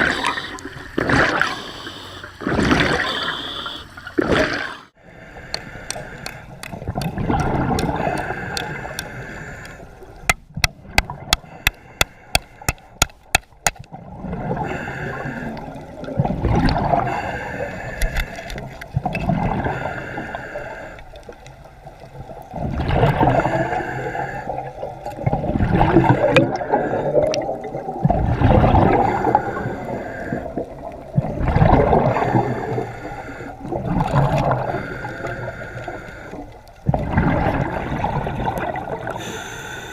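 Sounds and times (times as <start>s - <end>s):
underwater water rushing and gurgling: 0.0s - 39.9s.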